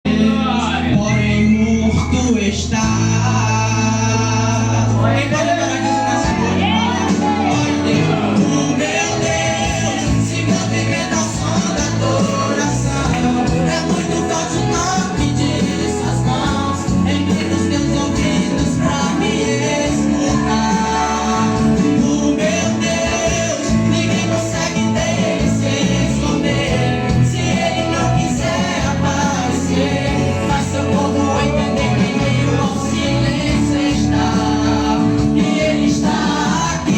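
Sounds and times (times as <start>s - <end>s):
guitar and band accompaniment: 0.1s - 36.9s
person singing worship song: 0.1s - 36.9s.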